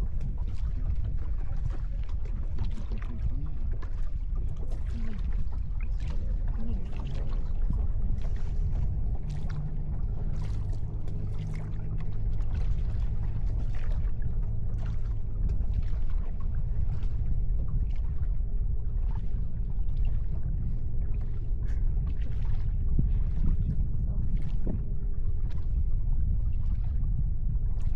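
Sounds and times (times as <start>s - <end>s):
boat engine hum: 0.0s - 27.9s
water splashing along hull: 0.0s - 27.9s.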